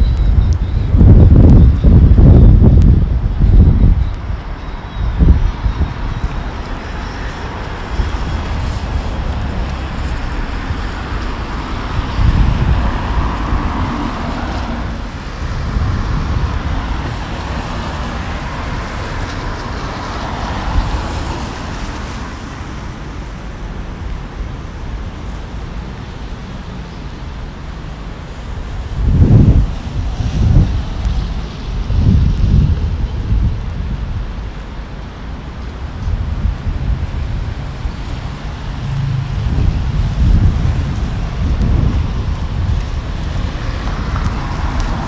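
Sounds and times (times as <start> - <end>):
wind buffeting microphone: 0.0 - 26.4, 27.1 - 45.0
steady traffic hum: 0.0 - 45.0
cars swishing past on wet road: 5.2 - 45.0.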